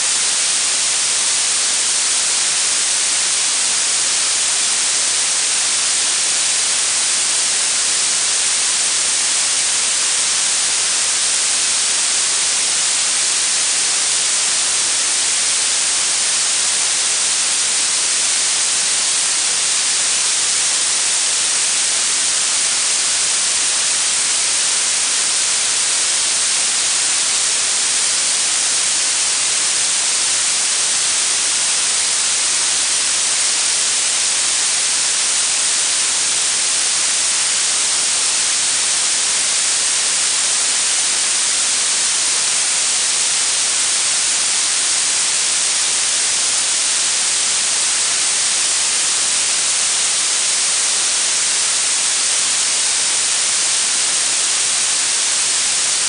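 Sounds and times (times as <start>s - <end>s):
bright synthetic hiss: 0.0s - 56.0s.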